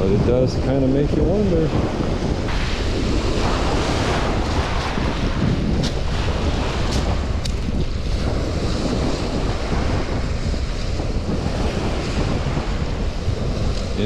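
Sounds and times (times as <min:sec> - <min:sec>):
waves washing onto shore: 0:00.0 - 0:14.0
wind buffeting microphone: 0:00.0 - 0:14.0.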